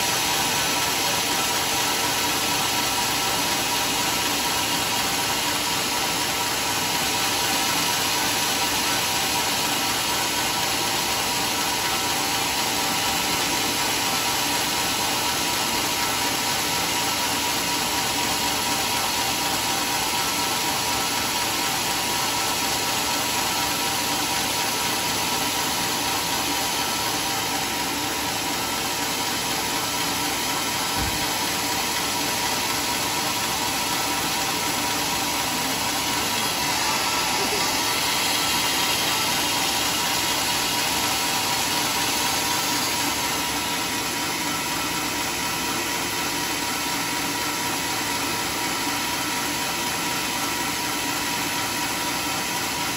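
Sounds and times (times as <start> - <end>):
band saw whining: 0.0 - 50.5.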